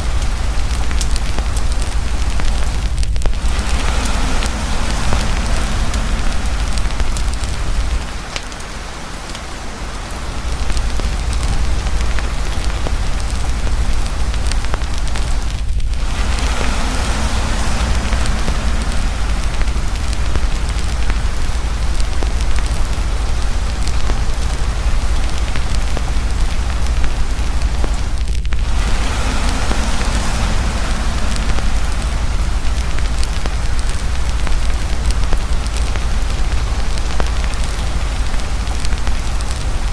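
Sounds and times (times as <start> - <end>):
campfire crackling and popping: 0.0 - 9.4, 10.5 - 39.9
deep low rumble: 0.0 - 39.9
heavy rain: 0.0 - 39.9.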